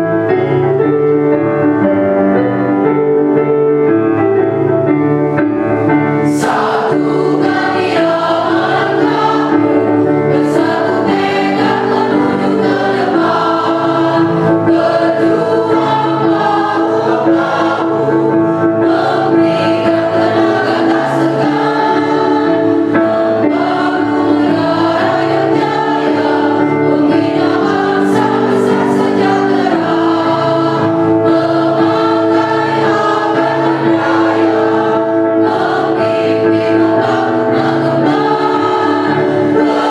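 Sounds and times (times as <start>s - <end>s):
choir singing a march: 6.2s - 39.9s.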